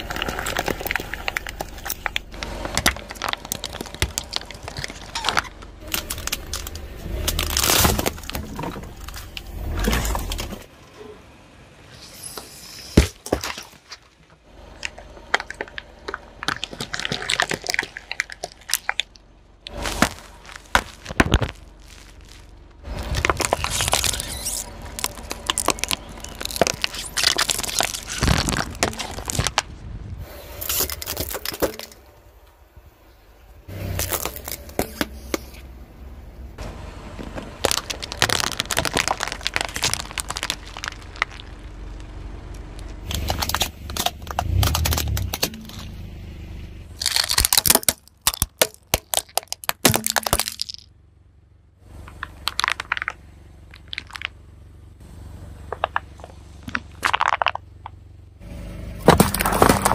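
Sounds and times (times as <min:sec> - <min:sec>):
plastic bottles crunching under tyre: 0:00.0 - 0:10.7, 0:12.9 - 0:32.2, 0:33.7 - 0:35.8, 0:36.6 - 0:46.1, 0:46.9 - 0:50.9, 0:51.9 - 0:54.4, 0:55.6 - 0:58.0, 0:59.0 - 0:59.9
low tyre rumble: 0:00.0 - 0:59.9.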